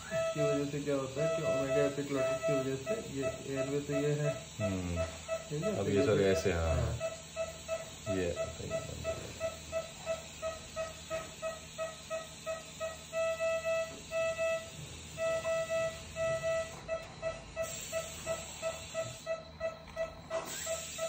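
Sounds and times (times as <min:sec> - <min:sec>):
patient monitor beeping: 0:00.0 - 0:21.0.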